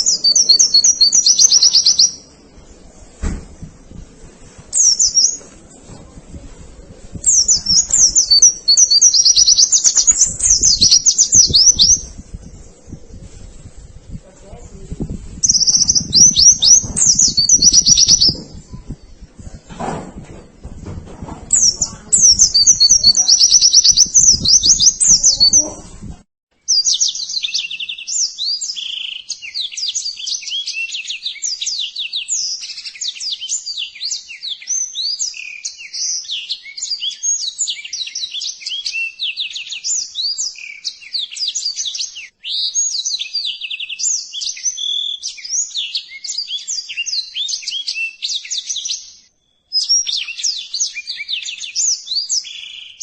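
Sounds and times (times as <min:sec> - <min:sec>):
songbird chirping and twittering: 0:00.0 - 0:53.0.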